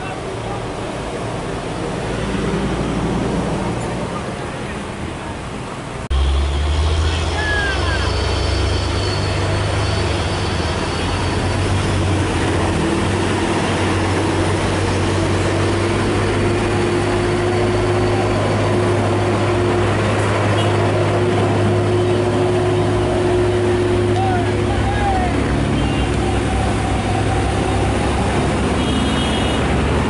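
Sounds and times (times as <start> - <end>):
diesel truck engines under load: 0.0 - 30.0.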